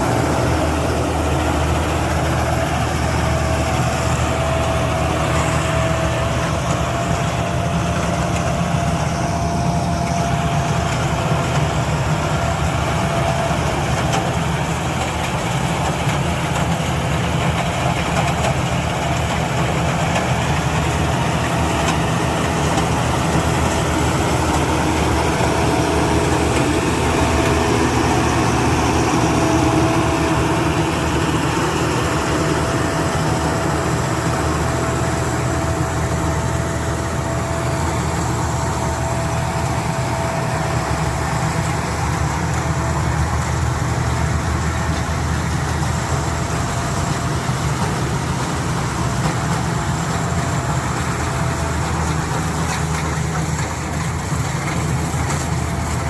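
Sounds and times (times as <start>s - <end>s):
combine harvester engine drone: 0.0s - 56.0s
steady whine: 0.0s - 56.0s.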